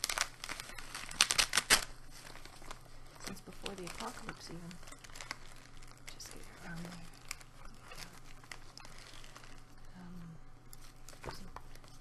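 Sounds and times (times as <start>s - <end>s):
blood pressure cuff crinkling: 0.0s - 12.0s.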